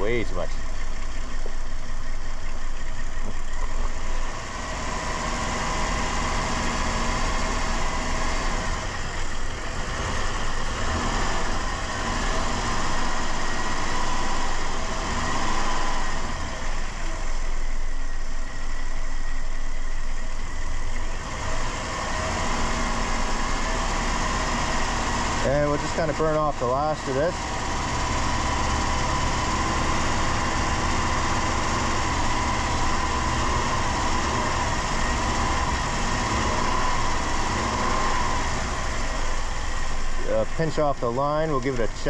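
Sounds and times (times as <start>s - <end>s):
car engine labouring: 0.0s - 42.0s.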